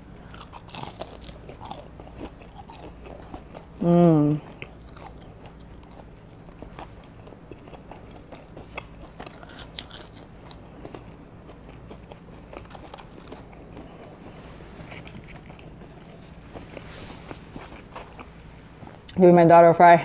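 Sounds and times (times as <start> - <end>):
person chewing food: 0.0 - 19.2.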